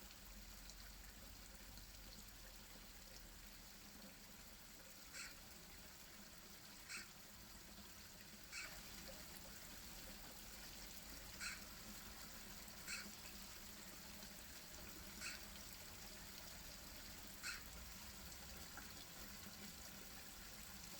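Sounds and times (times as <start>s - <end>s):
small waterfall running: 0.0s - 20.9s.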